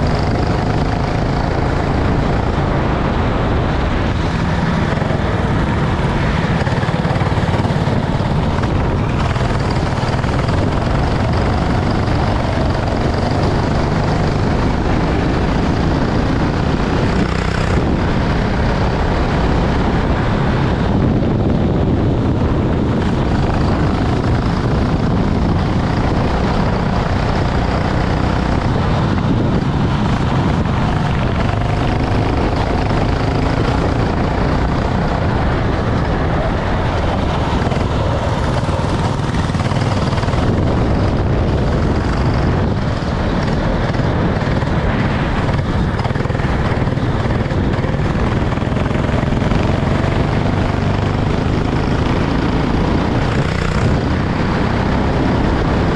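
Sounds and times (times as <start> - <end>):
kart engine running: 0.0 - 55.9.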